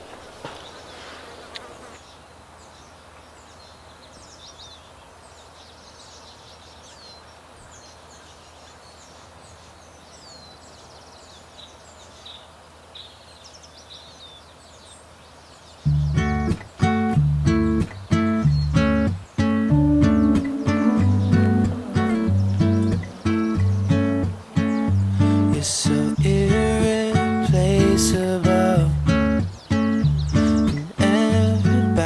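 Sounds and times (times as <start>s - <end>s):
faint background hiss: 0.0s - 32.0s
small birds chirping: 0.5s - 32.0s.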